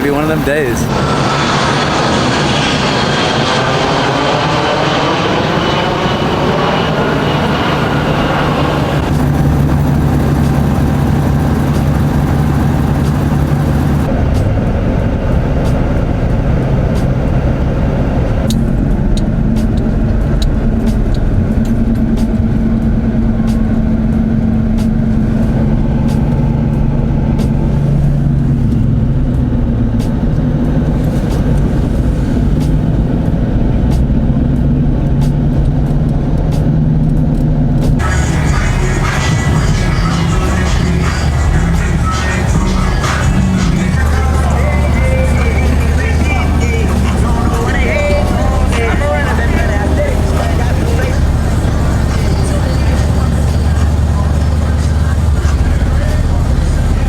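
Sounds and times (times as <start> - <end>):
vehicle engines droning: 0.0 - 57.0.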